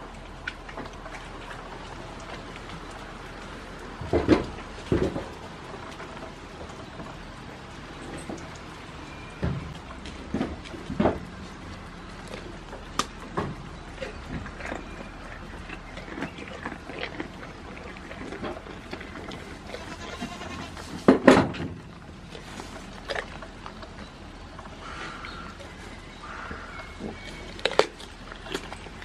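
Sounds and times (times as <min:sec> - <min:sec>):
goat chewing cucumber: 0:00.0 - 0:29.0.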